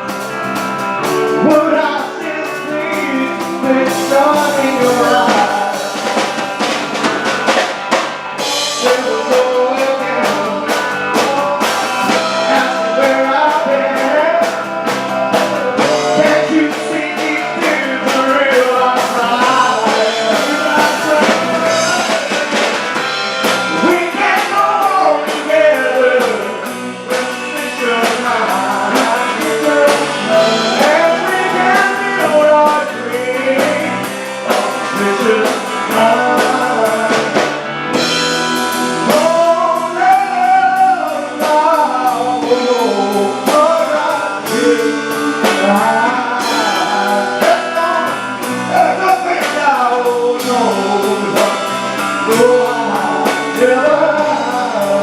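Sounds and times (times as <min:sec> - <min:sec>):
drum kit: 0:00.0 - 0:55.0
guitar: 0:00.0 - 0:55.0
person singing lead: 0:01.0 - 0:07.3, 0:08.4 - 0:55.0.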